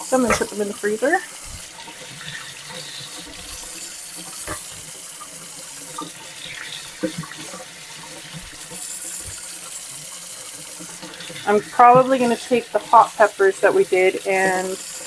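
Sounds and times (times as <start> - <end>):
tap running into sink: 0.1 - 13.2.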